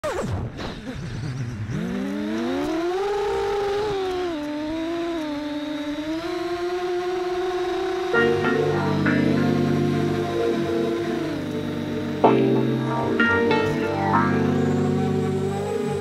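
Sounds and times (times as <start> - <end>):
quadcopter motors whining: 0.8 - 13.1, 14.4 - 16.0.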